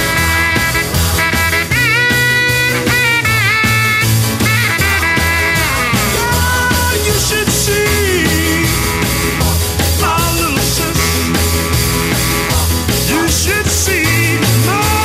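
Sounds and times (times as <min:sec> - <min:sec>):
upbeat rock and roll music: 0:00.0 - 0:15.0.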